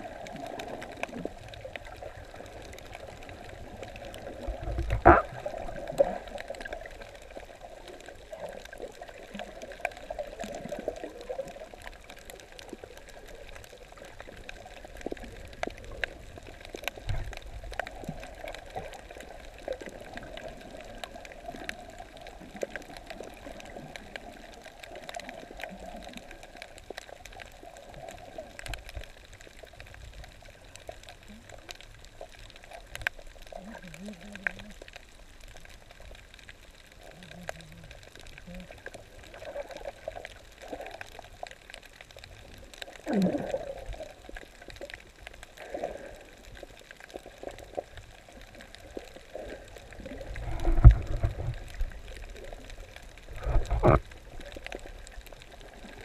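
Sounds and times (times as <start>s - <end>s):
faint crackling clicks: 0.0s - 56.0s
muffled underwater wash: 0.0s - 56.0s.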